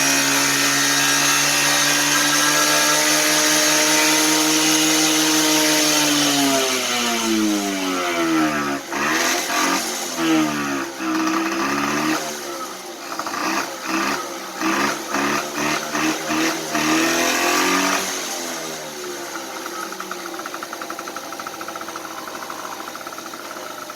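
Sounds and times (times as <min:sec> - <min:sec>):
scooter engine revving: 0:00.0 - 0:23.9.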